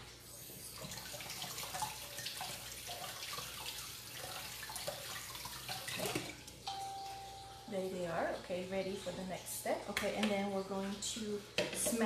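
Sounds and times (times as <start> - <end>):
kitchen tap running: 0.0 - 12.0.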